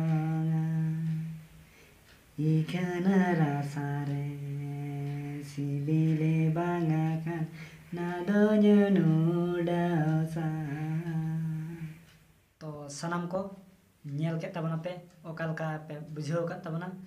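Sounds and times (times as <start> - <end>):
man singing unaccompanied: 0.0 - 1.6, 2.3 - 17.0.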